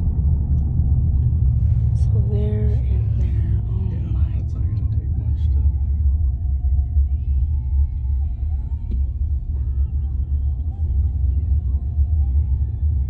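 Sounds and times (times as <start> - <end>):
road and wind rumble in car: 0.0 - 13.0
faint music: 1.3 - 13.0.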